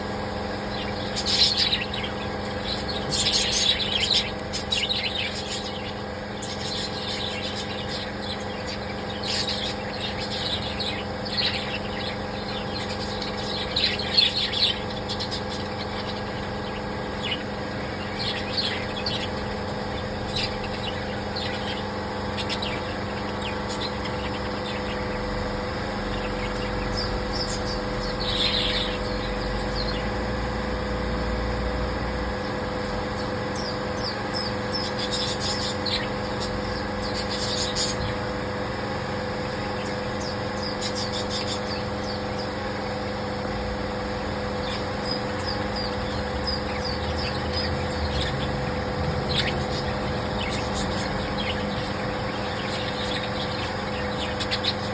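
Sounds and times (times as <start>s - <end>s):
low mechanical hum: 0.0s - 54.9s
small birds chirping: 0.0s - 54.9s.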